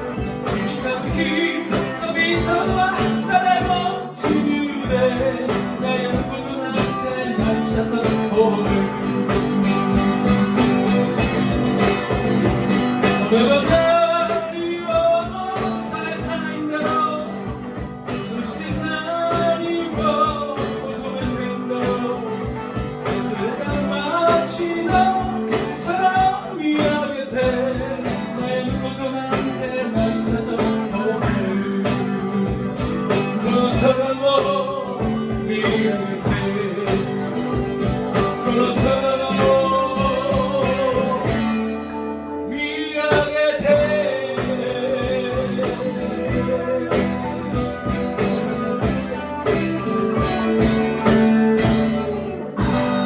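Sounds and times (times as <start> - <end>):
drum beat: 0.0 - 41.6, 43.1 - 53.0
guitar: 0.0 - 53.0.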